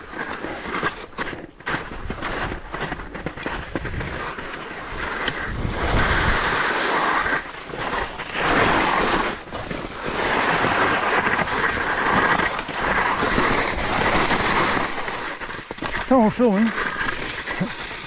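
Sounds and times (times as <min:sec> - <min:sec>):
skis scraping over snow: 0:00.0 - 0:18.0.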